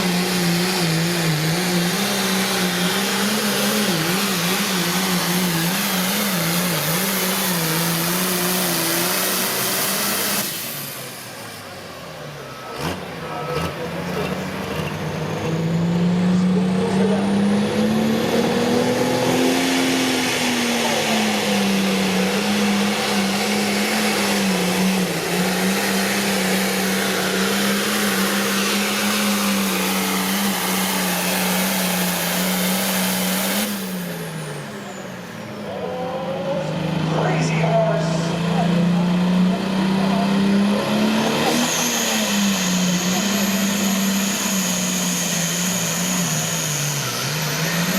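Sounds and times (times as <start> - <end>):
tractor engine at full throttle: 0.0 - 47.9.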